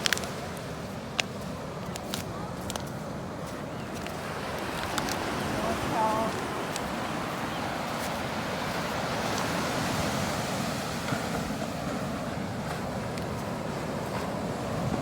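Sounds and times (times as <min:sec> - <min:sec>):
ocean surf rushing: 0:00.0 - 0:15.0
wind: 0:00.0 - 0:15.0.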